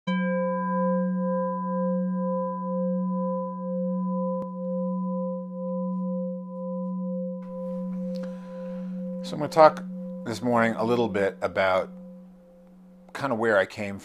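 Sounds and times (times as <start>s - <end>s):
singing bowl ringing: 0.1s - 14.0s.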